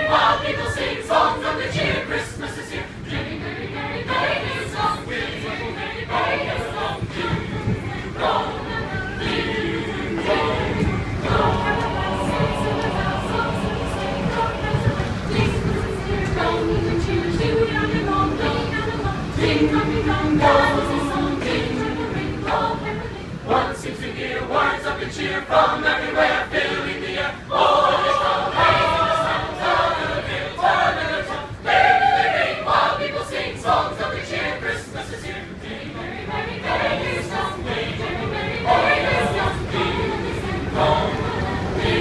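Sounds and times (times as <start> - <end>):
mixed choir singing a cappella: 0.0 - 42.0.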